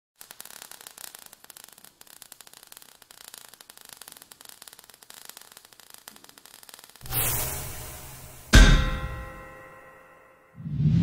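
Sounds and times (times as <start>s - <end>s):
sparks crackling and fizzing: 0.2s - 9.6s.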